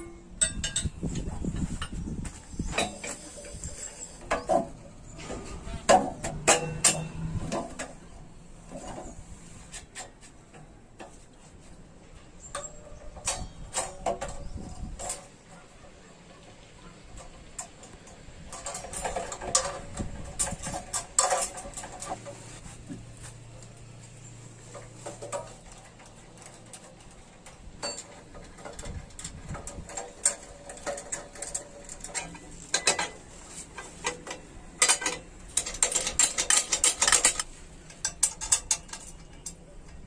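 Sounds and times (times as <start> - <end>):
hand tools tapping on metal: 0.0 - 11.4, 12.4 - 23.8, 24.7 - 40.0.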